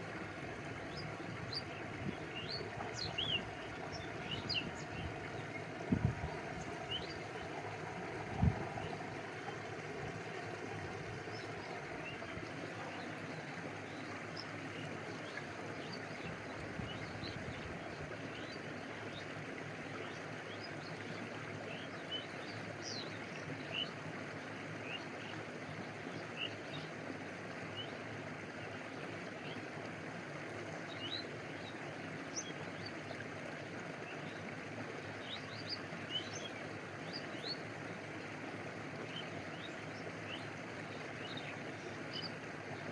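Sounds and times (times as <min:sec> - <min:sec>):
stream water running: 0:00.0 - 0:42.9.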